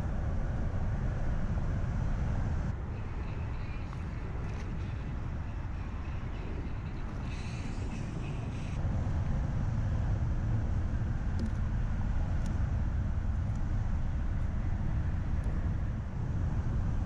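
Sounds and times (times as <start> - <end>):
highway traffic rumble: 0.0 - 17.0.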